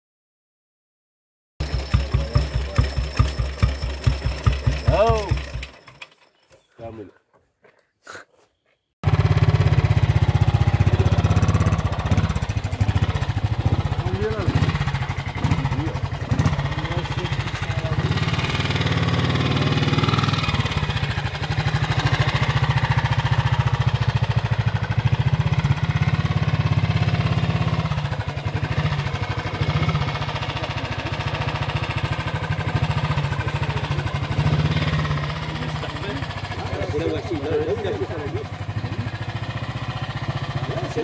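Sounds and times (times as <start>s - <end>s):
motorcycle engine running: 1.6s - 6.4s, 9.0s - 41.0s.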